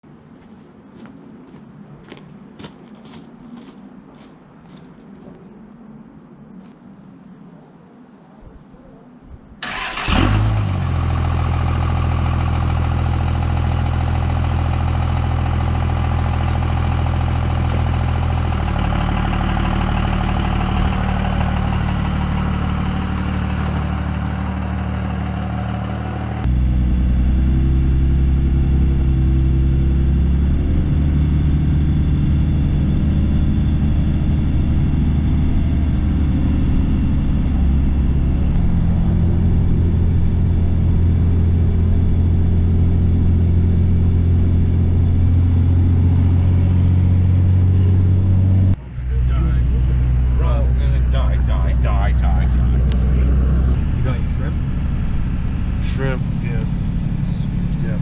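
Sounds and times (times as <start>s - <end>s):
vehicle engine running: 9.6s - 58.0s.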